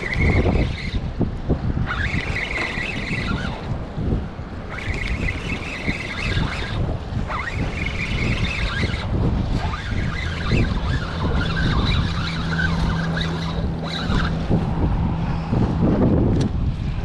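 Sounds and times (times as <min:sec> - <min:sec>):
motor hum: 0:00.0 - 0:17.0
wind buffeting microphone: 0:00.0 - 0:17.0.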